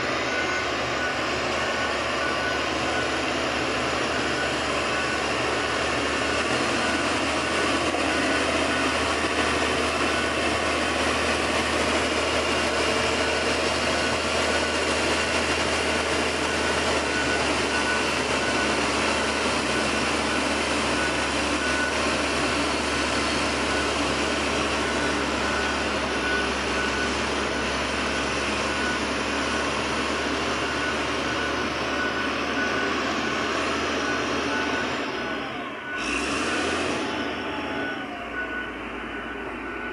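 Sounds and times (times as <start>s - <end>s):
diesel engine running: 0.0s - 39.9s
reversing alarm beeping: 0.0s - 39.9s.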